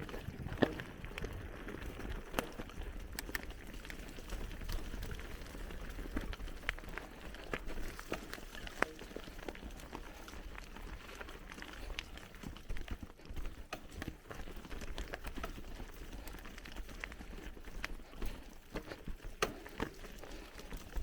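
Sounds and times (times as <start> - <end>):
bicycle tyres on dirt and stones: 0.0 - 21.0
bike rattling over bumps: 0.0 - 21.0.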